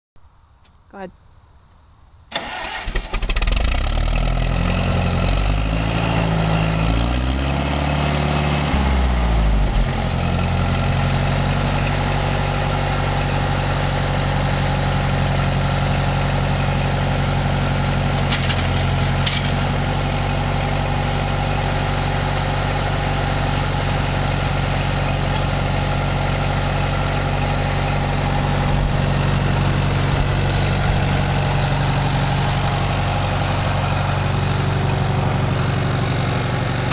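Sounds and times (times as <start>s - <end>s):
tractor engine starting and idling: 2.3s - 36.9s.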